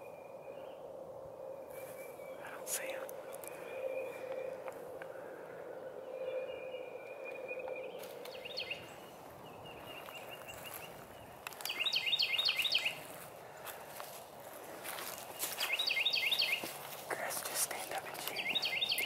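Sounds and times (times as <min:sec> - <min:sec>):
small bird singing: 0:00.0 - 0:13.2, 0:14.9 - 0:19.0
faint outdoor background hum: 0:00.0 - 0:19.0.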